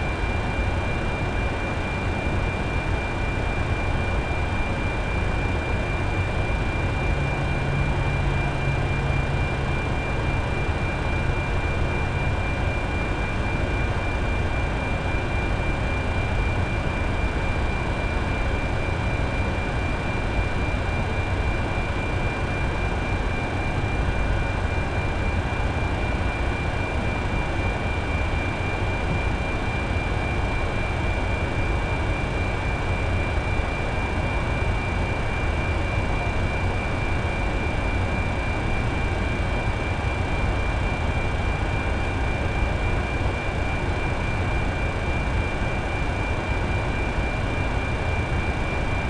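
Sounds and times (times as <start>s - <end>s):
constant high whine: 0.0s - 49.0s.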